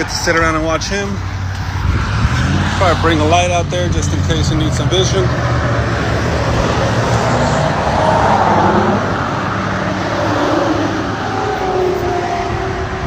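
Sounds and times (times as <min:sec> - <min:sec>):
highway traffic passing: 0:00.0 - 0:13.0
vehicle passing by: 0:00.0 - 0:13.0.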